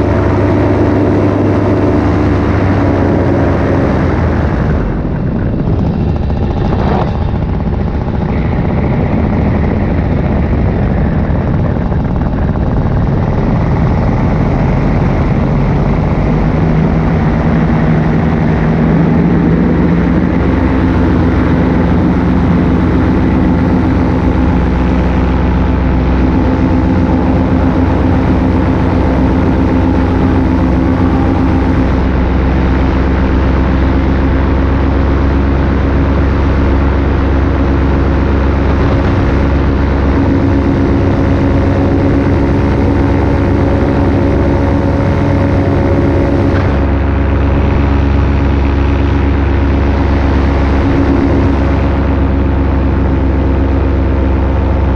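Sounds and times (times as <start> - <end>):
paramotor engine and propeller: 0.0 - 54.9
rushing wind noise: 0.0 - 54.9.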